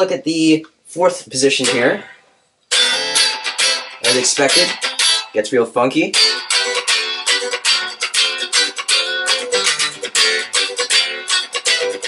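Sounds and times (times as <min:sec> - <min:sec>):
electric guitar funky choppy strums: 0:01.5 - 0:05.4, 0:06.1 - 0:12.0.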